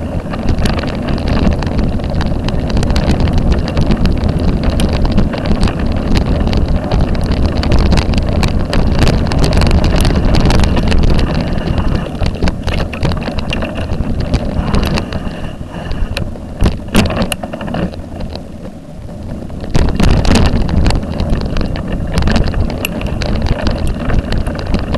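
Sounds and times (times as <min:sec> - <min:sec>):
constant rumble: 0:00.0 - 0:24.9
wind buffeting microphone: 0:00.0 - 0:24.9.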